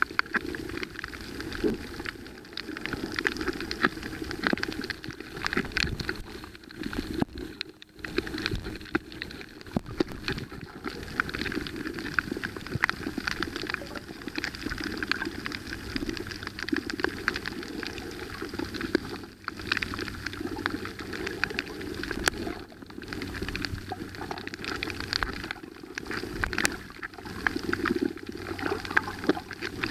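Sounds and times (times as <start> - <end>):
underwater crackling and bubbling: 0.0 - 29.9.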